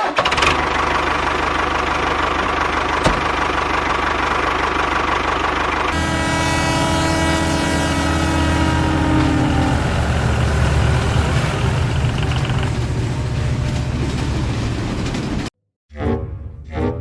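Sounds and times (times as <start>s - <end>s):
tractor engine running: 0.0s - 15.5s.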